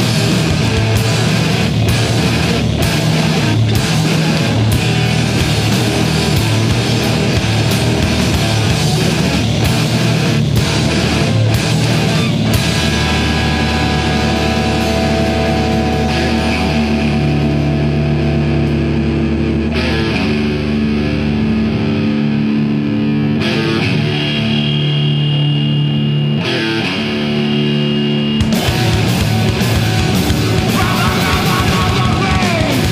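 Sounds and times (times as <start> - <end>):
distorted electric guitars: 0.0 - 32.9.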